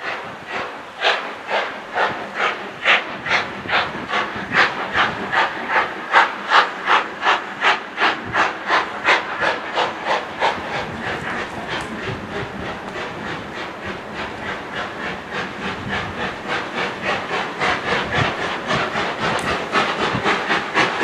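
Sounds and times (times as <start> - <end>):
steam locomotive exhaust chuffing: 0.0 - 21.0.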